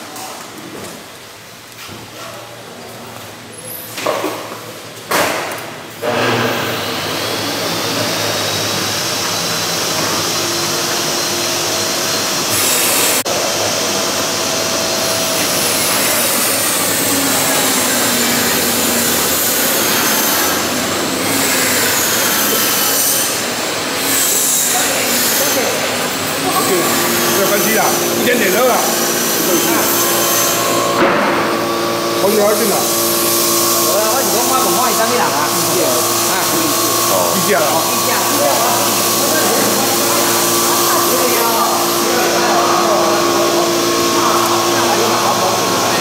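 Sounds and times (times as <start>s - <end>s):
power tool running on wood: 6.0s - 46.0s.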